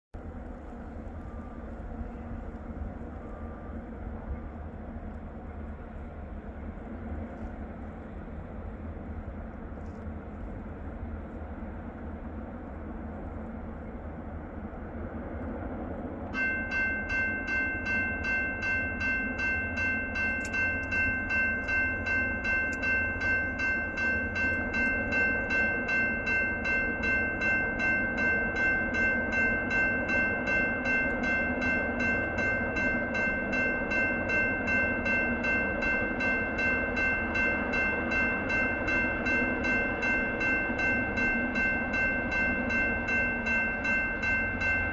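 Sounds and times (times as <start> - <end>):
low steady rumble: 0.2 - 44.9
railroad crossing bell ringing: 0.6 - 8.2, 16.3 - 44.9.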